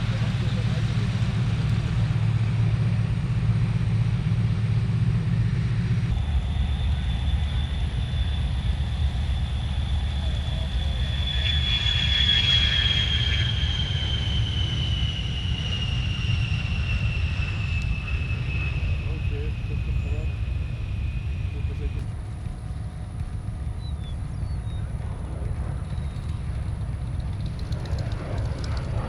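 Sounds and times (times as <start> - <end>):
aircraft engine rumble: 0.0 - 29.0
high aircraft whine falling in pitch: 0.0 - 29.0.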